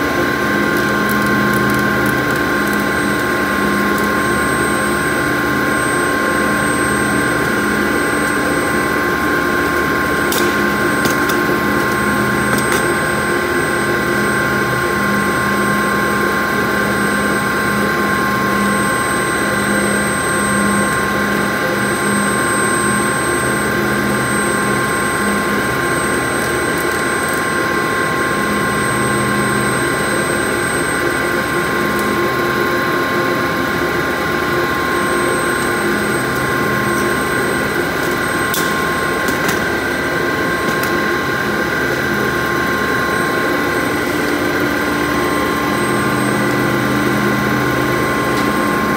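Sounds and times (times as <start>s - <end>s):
high machine whines: 0.0s - 48.9s
low machine hum: 0.0s - 48.9s.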